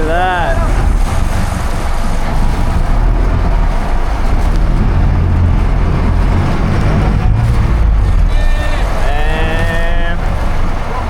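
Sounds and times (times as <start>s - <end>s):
boat engine running: 0.0s - 11.0s
water noise: 0.0s - 11.0s
wind: 0.0s - 11.0s.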